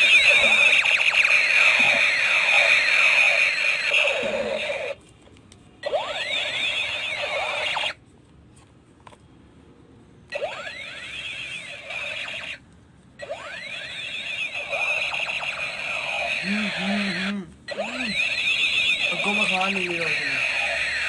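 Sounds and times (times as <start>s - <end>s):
toy laser gun shooting: 0.0s - 5.0s, 5.8s - 8.0s, 10.3s - 12.6s, 13.2s - 21.0s.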